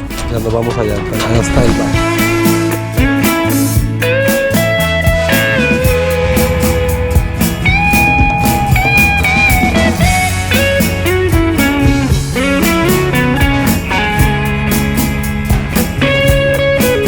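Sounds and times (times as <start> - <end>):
bass: 0.0 - 17.0
steady drum beat: 0.0 - 17.0
electric lead guitar melody: 2.0 - 17.0.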